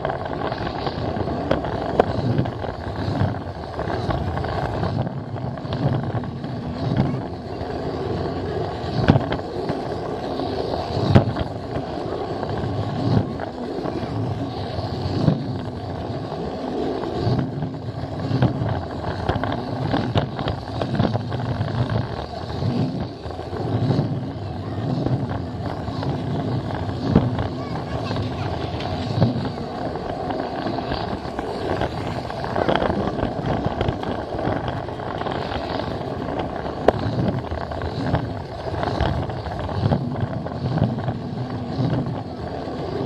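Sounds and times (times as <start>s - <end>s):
toy train motor whir: 0.0s - 43.0s.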